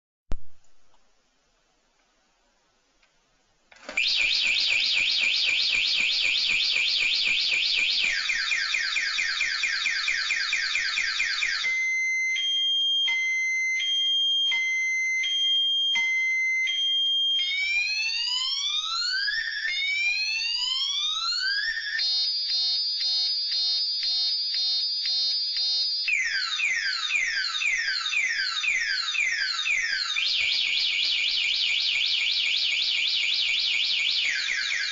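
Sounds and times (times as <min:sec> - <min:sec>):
car alarm siren: 0:03.9 - 0:34.9.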